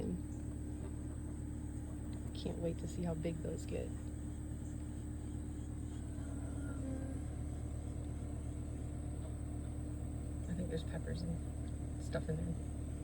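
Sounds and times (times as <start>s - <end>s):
faint constant tone: 0.0s - 13.0s
low background hum: 0.0s - 13.0s.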